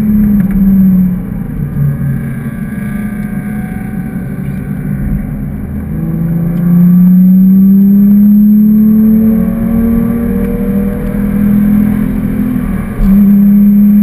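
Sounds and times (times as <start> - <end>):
car engine under full load: 0.0 - 14.0.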